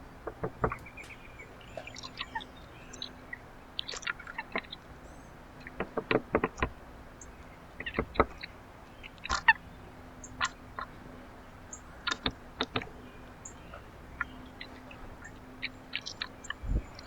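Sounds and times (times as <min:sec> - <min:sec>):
birds pecking taps: 0:00.2 - 0:04.9, 0:05.5 - 0:09.6, 0:11.6 - 0:16.6.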